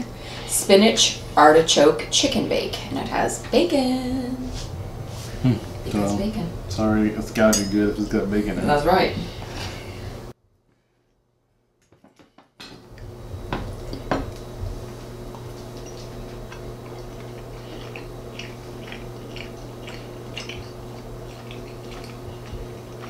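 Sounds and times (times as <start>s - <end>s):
steady low hum: 0.0s - 10.4s, 12.7s - 23.0s.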